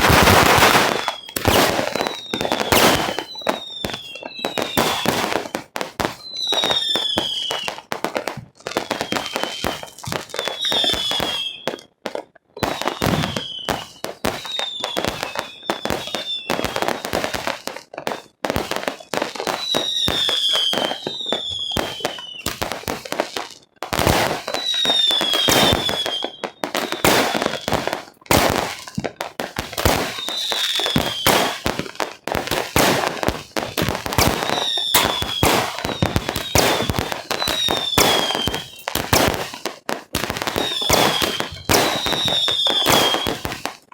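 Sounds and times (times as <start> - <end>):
falling firework whistles: 0.0 - 7.9, 8.8 - 11.9, 12.6 - 23.0, 24.1 - 29.0, 29.7 - 31.8, 32.5 - 43.8
fireworks bangs and crackling: 0.0 - 43.9.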